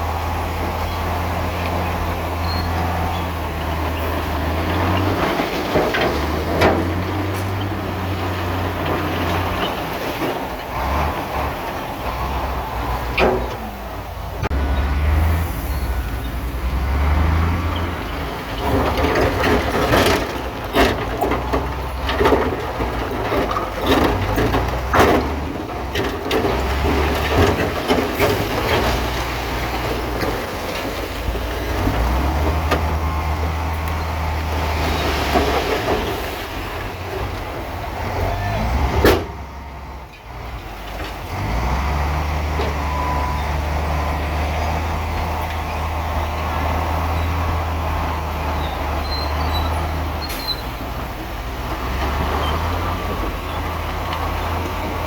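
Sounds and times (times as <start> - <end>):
diesel machinery droning: 0.0 - 55.0
steel tracks clanking: 0.0 - 55.0.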